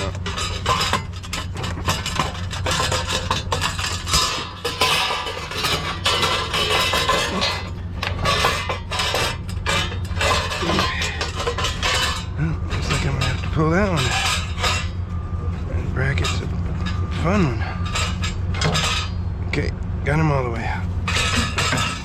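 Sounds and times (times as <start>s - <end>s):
metal clanking and scraping: 0.0s - 22.0s
steady low hum: 0.0s - 22.0s.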